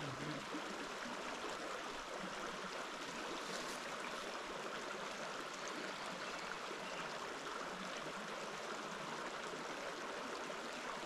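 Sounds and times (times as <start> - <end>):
creek flowing: 0.0 - 11.0.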